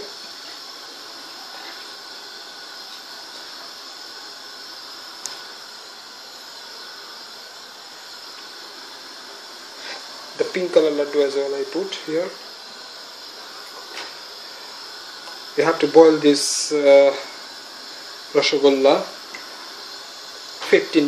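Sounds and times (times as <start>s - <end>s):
syrup boiling hiss: 0.0s - 21.0s.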